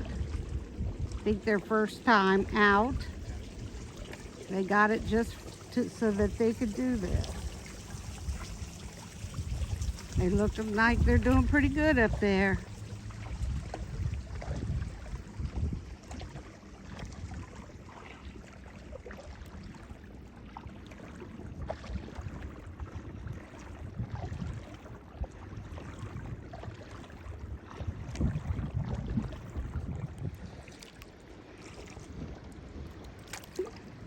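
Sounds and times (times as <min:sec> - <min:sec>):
wind rumbling on microphone: 0:00.0 - 0:18.0, 0:20.6 - 0:34.0
small splashes and drips: 0:00.0 - 0:34.0
water lapping around kayak: 0:00.0 - 0:34.0.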